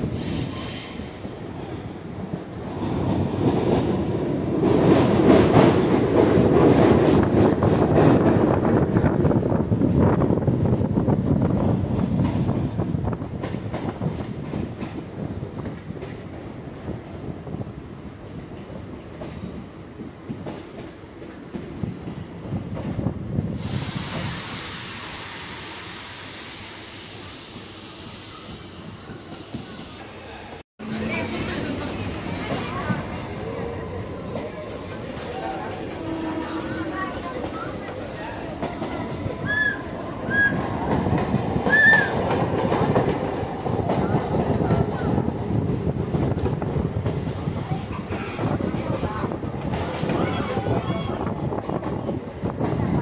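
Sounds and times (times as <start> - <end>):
train wheels rumbling and knocking: 0.0 - 26.1, 30.8 - 53.0.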